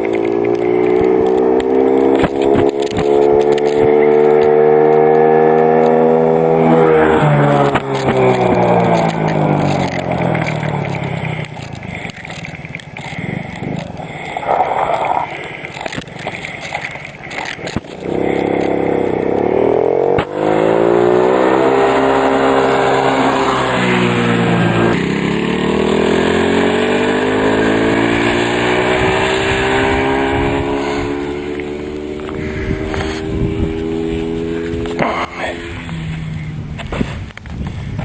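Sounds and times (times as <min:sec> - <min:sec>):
quad engine revving: 0:00.0 - 0:37.4.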